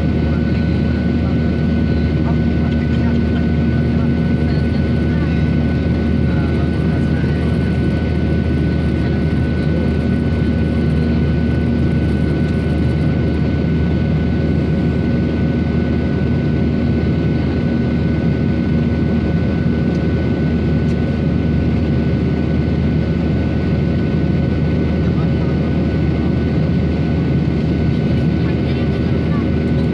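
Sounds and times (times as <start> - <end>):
airliner cabin engine rumble: 0.0 - 29.9.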